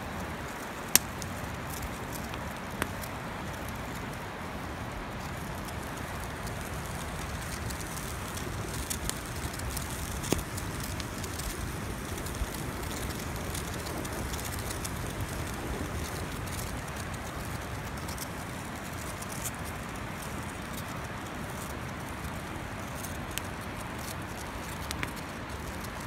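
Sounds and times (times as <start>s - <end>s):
campfire crackling and popping: 0.1s - 26.0s.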